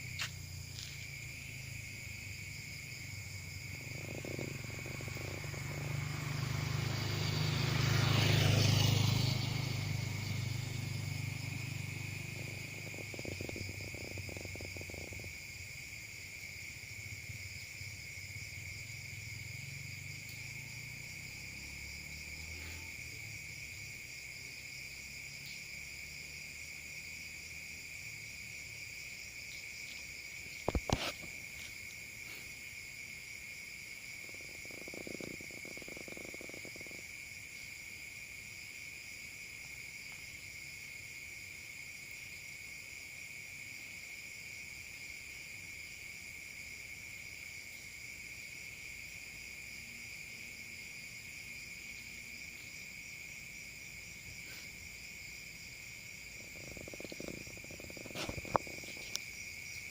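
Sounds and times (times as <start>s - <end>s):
night insects trilling: 0.0s - 59.9s.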